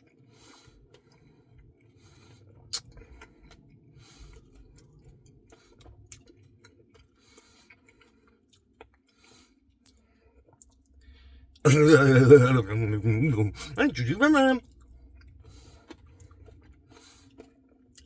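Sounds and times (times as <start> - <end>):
person chewing: 0.4 - 10.9, 11.6 - 18.0.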